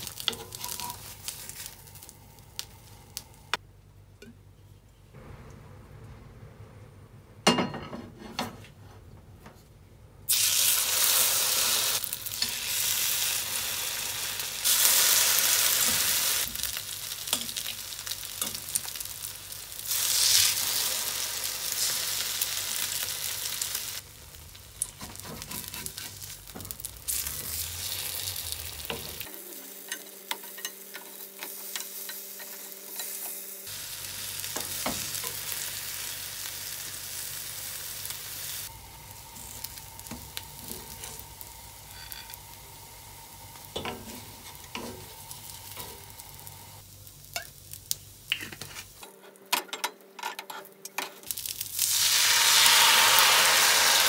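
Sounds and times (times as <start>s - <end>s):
food sizzling in a hot pan: 0.0s - 3.6s, 10.3s - 49.0s, 51.2s - 54.0s.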